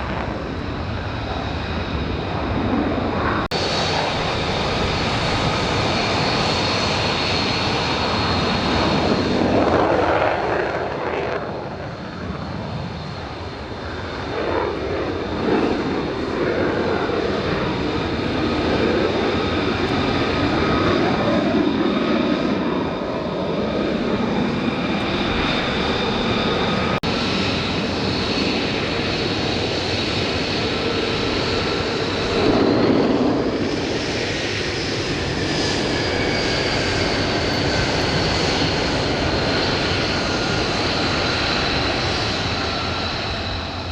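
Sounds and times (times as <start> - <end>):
jet engine whining: 0.0 - 43.9.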